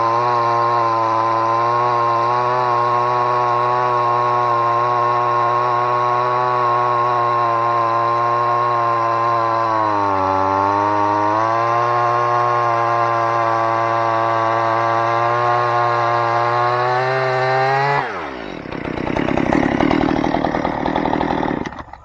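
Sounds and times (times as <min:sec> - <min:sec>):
chainsaw cutting log: 0:00.0 - 0:22.0.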